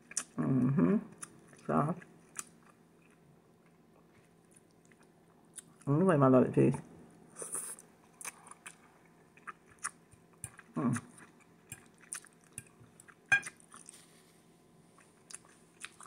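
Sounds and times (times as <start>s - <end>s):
person chewing food: 0.0s - 0.4s, 1.1s - 5.9s, 7.4s - 14.2s, 14.8s - 16.0s.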